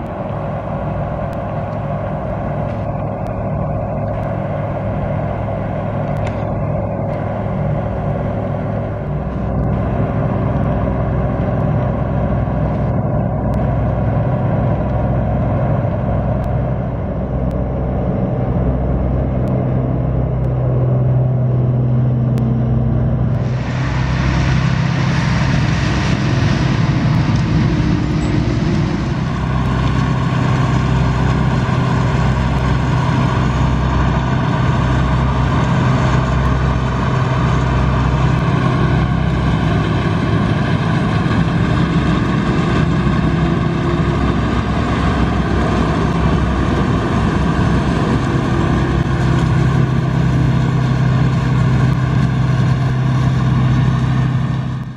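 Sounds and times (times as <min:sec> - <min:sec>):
combine harvester engine droning: 0:00.0 - 0:54.9.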